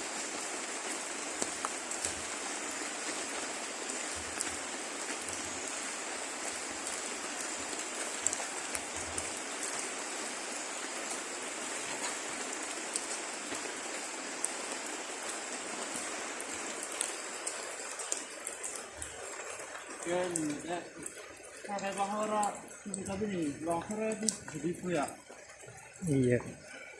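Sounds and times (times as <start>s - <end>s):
rain pattering on leaves: 0.0s - 26.9s.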